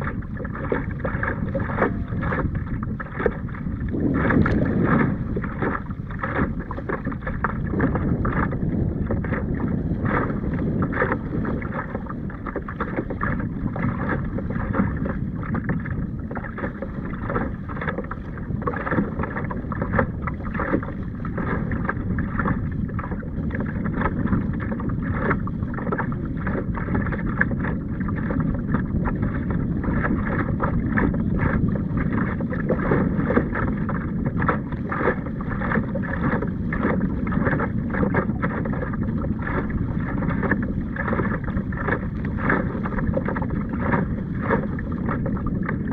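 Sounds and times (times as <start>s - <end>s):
water splashing against kayak hull: 0.0s - 45.9s
wind buffeting microphone: 0.0s - 45.9s.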